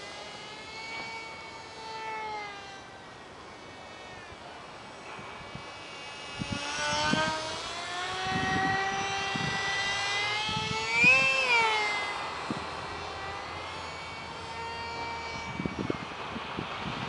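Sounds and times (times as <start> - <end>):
small electric motor whine: 0.0 - 17.0.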